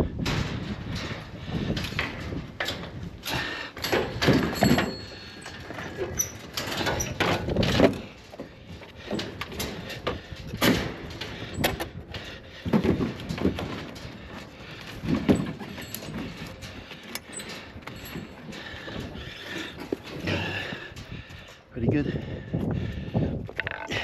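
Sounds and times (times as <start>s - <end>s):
bicycle clunking against metal mesh: 0.0s - 21.7s.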